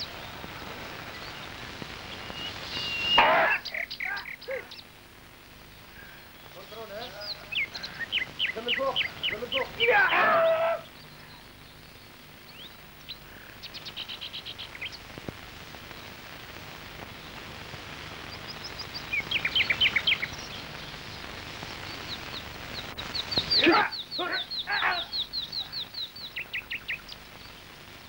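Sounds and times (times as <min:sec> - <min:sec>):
birds chirping: 0:00.0 - 0:28.0
faint steady hiss: 0:00.0 - 0:28.0.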